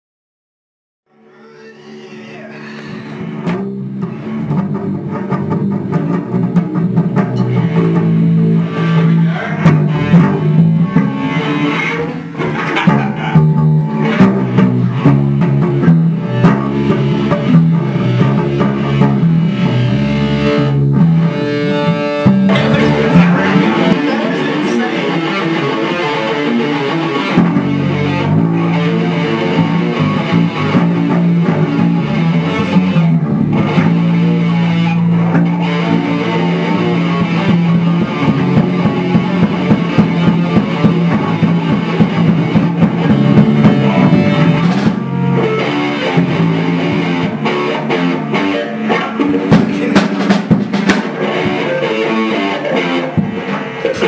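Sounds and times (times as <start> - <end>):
electric guitar: 1.1 - 54.0
drum kit: 2.9 - 54.0.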